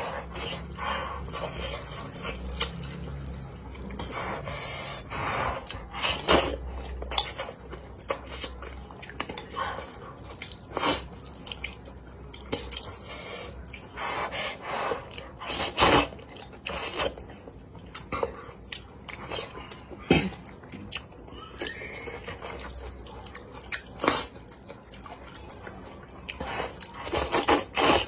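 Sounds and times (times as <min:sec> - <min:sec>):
person slurping and chewing noodles: 0:00.0 - 0:28.0.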